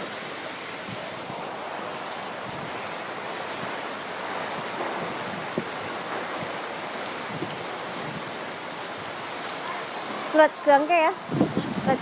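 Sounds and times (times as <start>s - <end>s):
rain and wind rushing: 0.0s - 12.0s.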